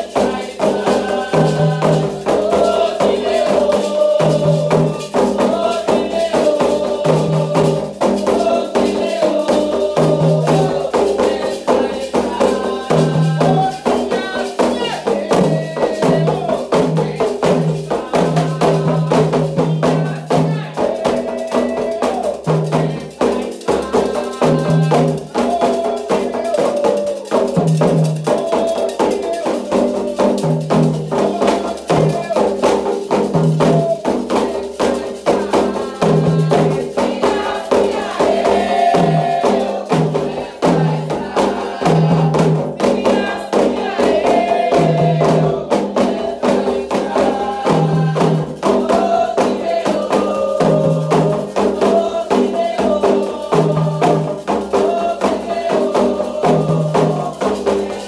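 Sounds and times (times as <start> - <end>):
hand drums: 0.0 - 58.0
voices singing: 0.0 - 58.0.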